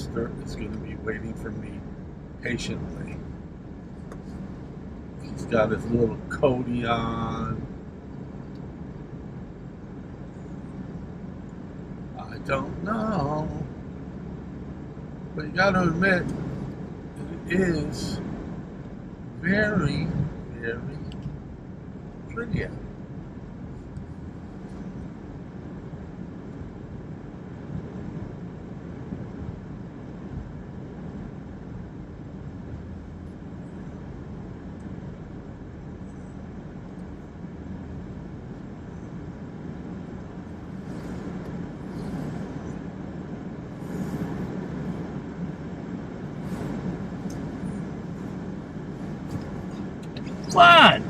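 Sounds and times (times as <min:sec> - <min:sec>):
car engine and tyre hum: 0:00.0 - 0:51.0.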